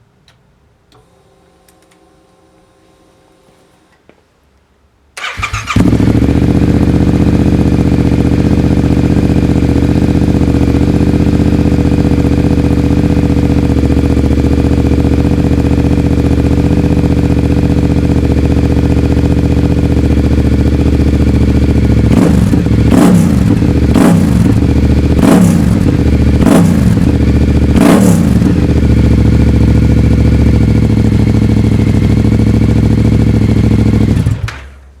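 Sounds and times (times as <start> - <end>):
motorcycle engine idling: 5.2 - 34.9.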